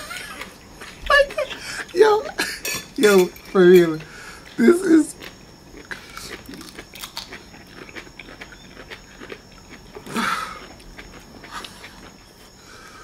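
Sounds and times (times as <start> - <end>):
wet chewing and crunching: 0.0 - 2.3, 3.0 - 13.0.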